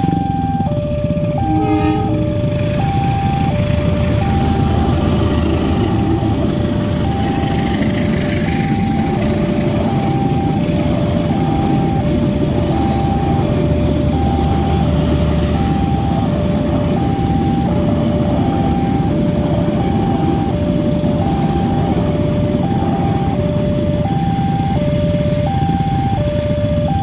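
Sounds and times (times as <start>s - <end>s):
two-tone crossing alarm: 0.0s - 27.0s
train coaches rumbling: 0.8s - 27.0s.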